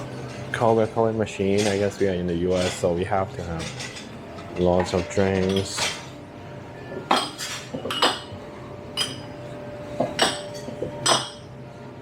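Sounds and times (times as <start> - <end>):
glassware and dishes clinking: 0.0 - 11.6.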